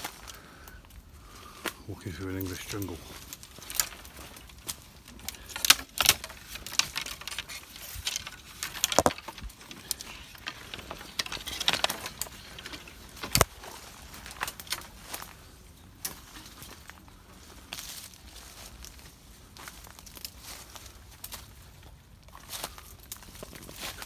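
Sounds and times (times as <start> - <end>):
foliage rustling: 0.0 - 24.0
twigs cracking and snapping: 0.0 - 24.0.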